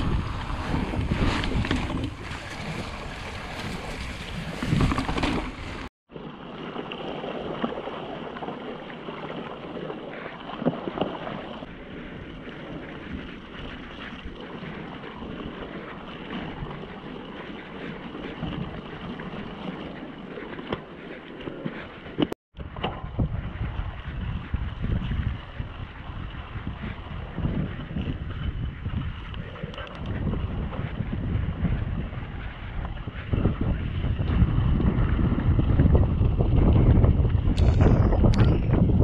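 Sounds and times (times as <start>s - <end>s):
wind buffeting microphone: 0.0s - 8.2s, 9.0s - 39.0s.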